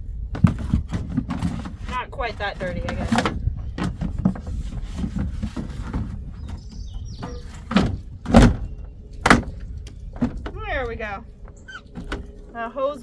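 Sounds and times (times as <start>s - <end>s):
steady low rumble: 0.0s - 13.0s
plastic shroud knocks and clunks: 0.3s - 12.6s.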